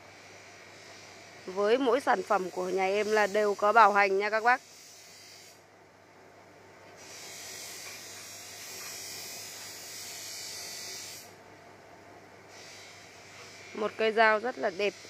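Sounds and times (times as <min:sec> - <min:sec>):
high-pitched buzzing hiss: 0:00.0 - 0:05.7, 0:06.9 - 0:11.5, 0:12.5 - 0:15.0.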